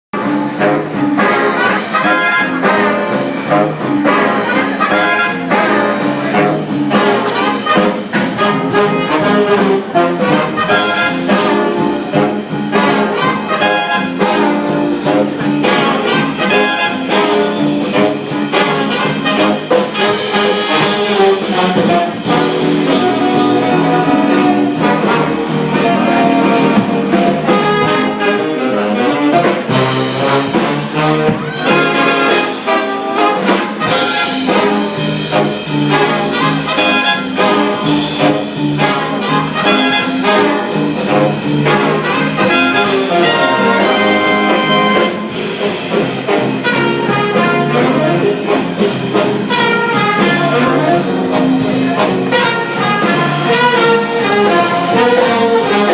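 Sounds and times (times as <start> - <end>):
big band swing jazz: 0.1 - 55.9.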